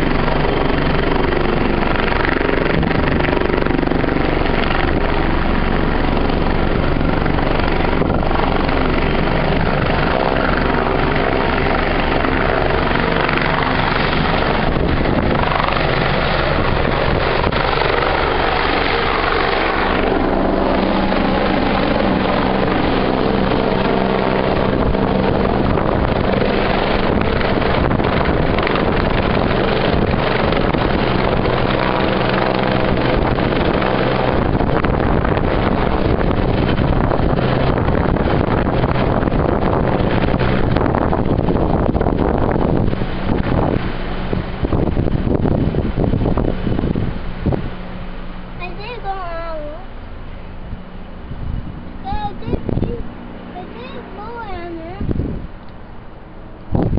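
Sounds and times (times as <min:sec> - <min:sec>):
helicopter engines and rotor: 0:00.0 - 0:56.9.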